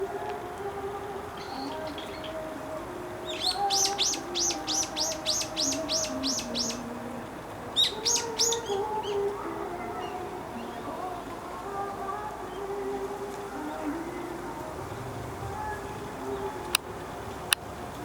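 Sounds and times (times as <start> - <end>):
songbird singing high notes: 0.0 - 17.6.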